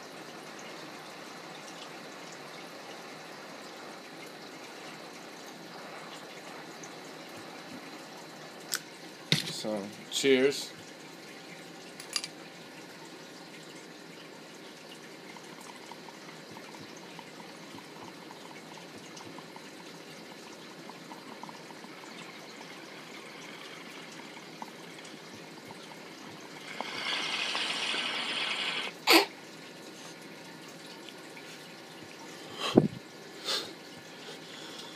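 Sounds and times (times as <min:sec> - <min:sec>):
water bubbling in a water pipe: 0:00.0 - 0:09.2, 0:09.9 - 0:34.9.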